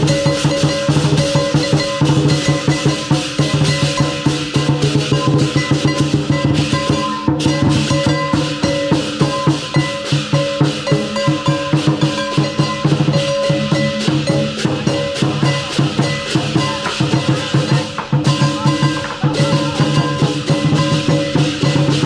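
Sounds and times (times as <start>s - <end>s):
cymbals clashing: 0.0s - 22.0s
gong ringing: 0.0s - 22.0s
large drum beaten fast: 0.0s - 22.0s.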